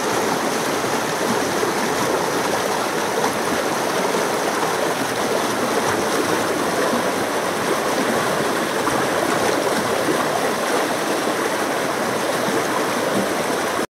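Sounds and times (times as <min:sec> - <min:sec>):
stream water flowing over rocks: 0:00.0 - 0:13.9.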